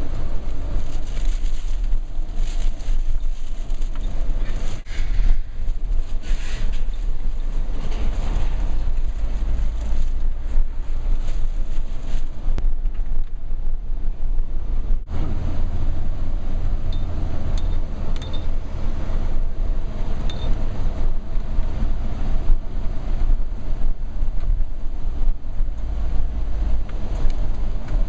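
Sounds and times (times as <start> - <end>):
engine and road noise in car cabin: 0.0 - 28.0.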